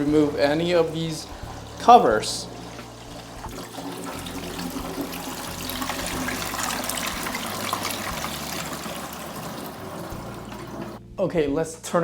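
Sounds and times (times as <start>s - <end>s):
water pouring into tank: 0.0s - 11.0s.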